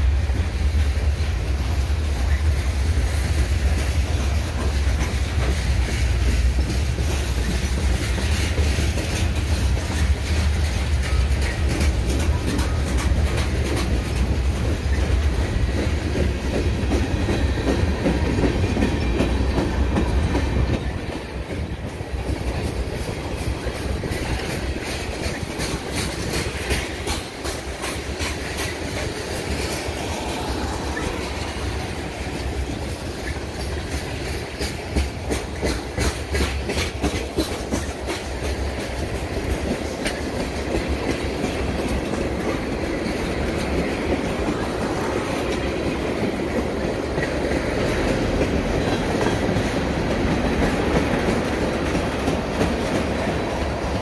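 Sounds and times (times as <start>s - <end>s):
steel wheels clicking over rail joints: 0.0s - 54.0s
train rumble: 0.0s - 54.0s.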